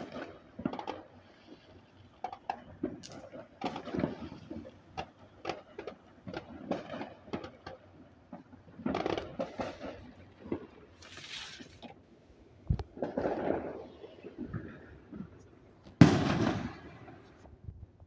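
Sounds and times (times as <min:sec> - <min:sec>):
fireworks popping and crackling: 0:00.0 - 0:18.0.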